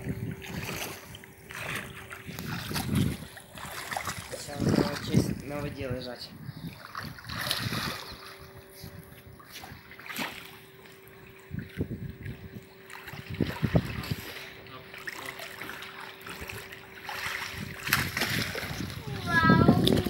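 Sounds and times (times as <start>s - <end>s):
water splashes from swimmers: 0.0s - 5.5s, 6.7s - 8.4s, 9.4s - 20.0s
faint steady hum: 0.0s - 20.0s.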